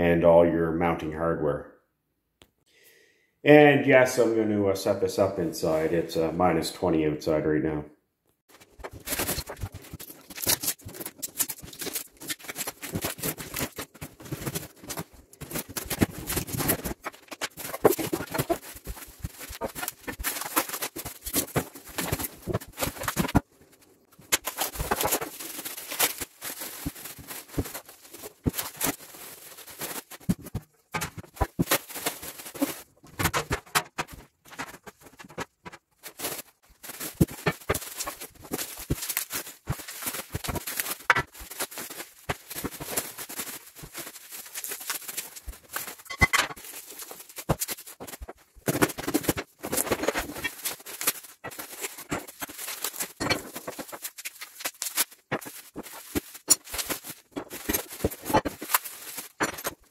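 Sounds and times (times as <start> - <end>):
cardboard rustling and scraping: 8.5 - 59.9
plastic wrap crinkling: 8.5 - 59.9.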